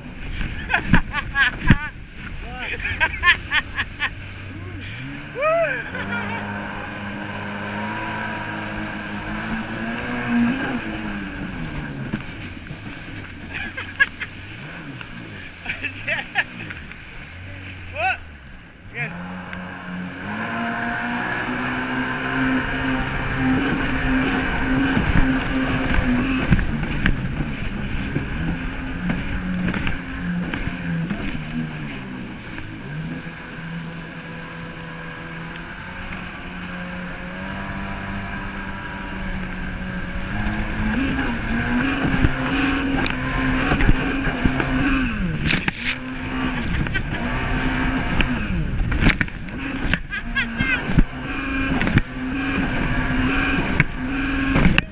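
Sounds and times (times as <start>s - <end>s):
water spray rushing: 0.0s - 18.5s, 19.1s - 54.8s
jet ski engine running: 0.0s - 54.9s.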